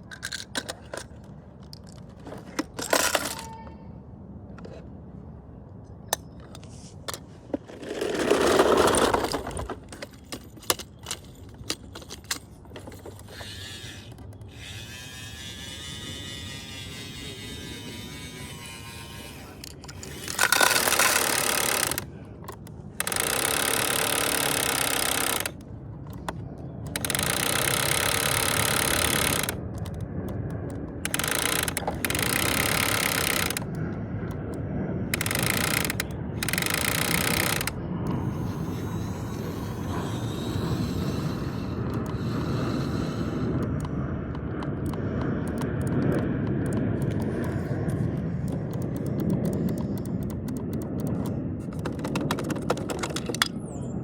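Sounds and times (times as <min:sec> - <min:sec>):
toy motor whirring: 0:00.0 - 0:03.8, 0:06.6 - 0:34.5, 0:35.1 - 0:53.6.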